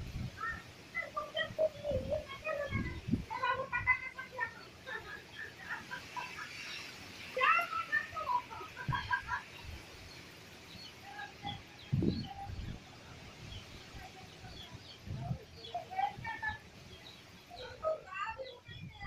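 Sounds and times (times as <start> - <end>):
rain falling steadily: 0.0 - 18.8
birds calling: 0.0 - 19.0
wind gusting against microphone: 0.0 - 19.0.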